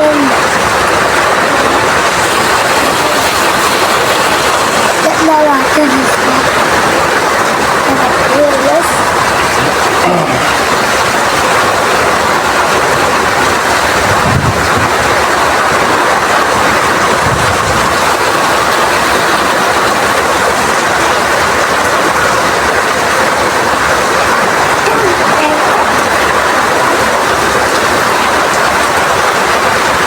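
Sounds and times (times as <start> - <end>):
heavy rain in strong wind: 0.0 - 30.0.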